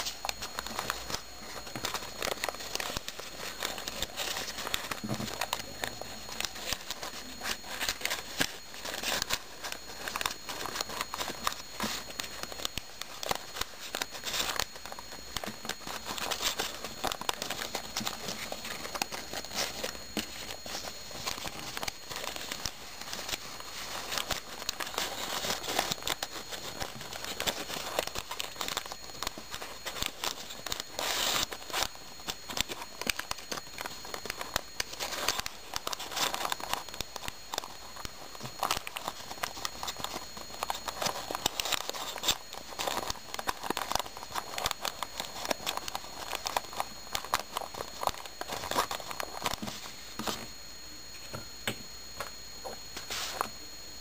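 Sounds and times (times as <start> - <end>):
paper rustling and crinkling: 0.0 - 50.6, 52.2 - 53.6.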